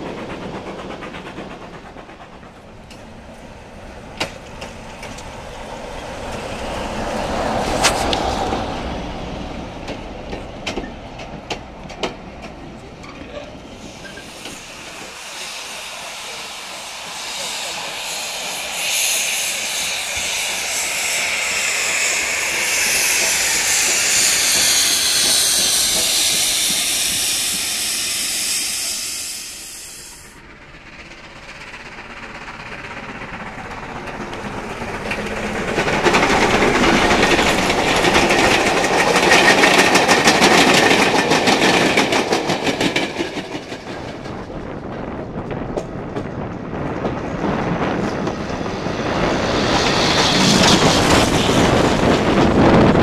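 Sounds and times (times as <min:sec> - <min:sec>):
steam locomotive hissing: 0:00.0 - 0:53.0
steam train passing: 0:00.0 - 0:53.0.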